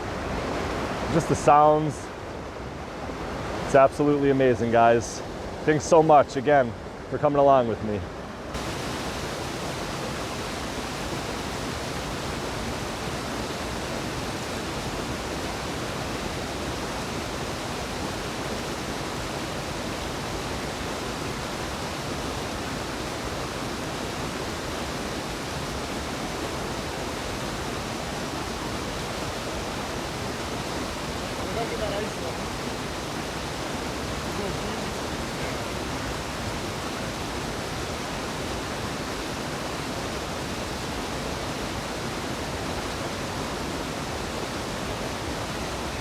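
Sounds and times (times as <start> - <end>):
waterfall rushing: 0.0 - 2.0, 8.5 - 46.0.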